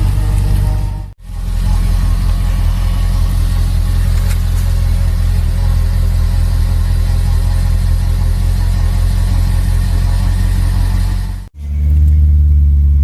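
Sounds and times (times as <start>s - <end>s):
deep loud engine running: 0.0s - 13.0s.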